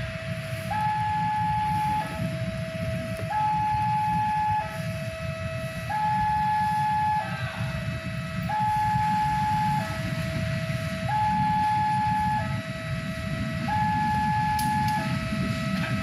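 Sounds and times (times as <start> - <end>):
engine rumbling: 0.0 - 16.0
two-tone warning siren: 0.0 - 16.0.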